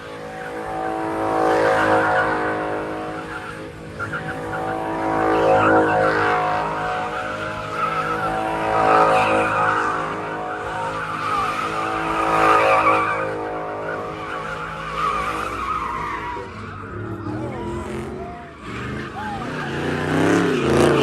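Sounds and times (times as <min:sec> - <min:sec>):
car engine running hard: 0:00.0 - 0:21.0
tyres squealing and skidding: 0:00.0 - 0:21.0.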